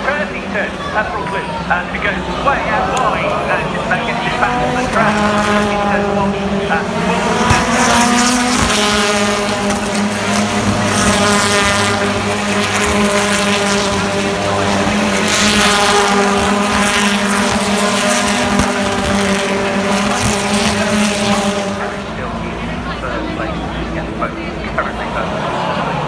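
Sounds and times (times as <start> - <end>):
racing car engines at high pitch: 0.0 - 26.0.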